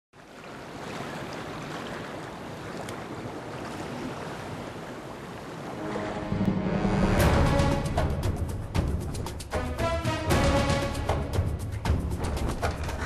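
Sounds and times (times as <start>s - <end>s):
wind: 0.1s - 13.0s
sea waves: 0.2s - 13.0s.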